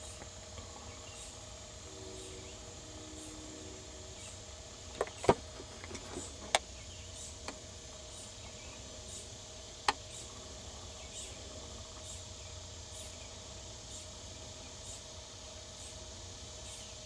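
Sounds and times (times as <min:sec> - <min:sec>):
insects chirping: 0:00.0 - 0:17.0
steady background noise: 0:00.0 - 0:17.0.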